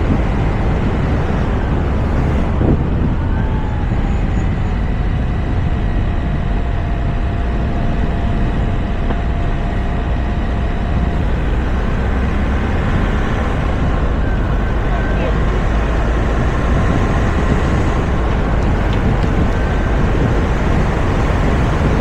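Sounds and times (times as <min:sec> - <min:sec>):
wind and tyre rumble: 0:00.0 - 0:22.0.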